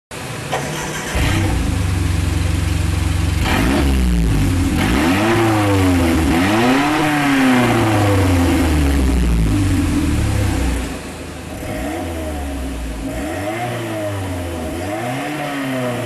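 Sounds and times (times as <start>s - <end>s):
car engine idling and revving: 0.1s - 16.0s.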